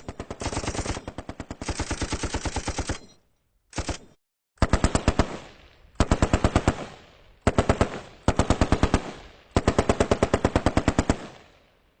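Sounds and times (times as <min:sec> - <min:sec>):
machine gun automatic fire: 0:00.0 - 0:11.4.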